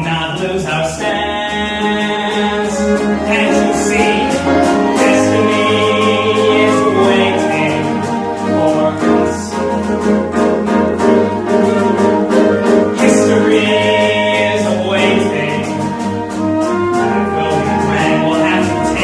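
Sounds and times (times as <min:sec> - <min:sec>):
ensemble voices singing: 0:00.0 - 0:19.0
pit orchestra playing: 0:00.0 - 0:19.0.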